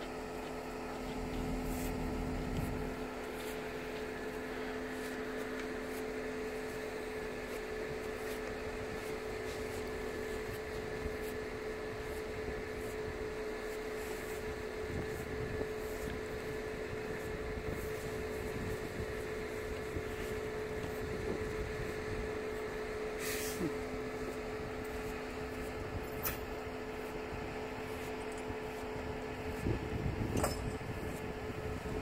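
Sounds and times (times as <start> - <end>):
mechanical hum with whine: 0.0 - 32.0.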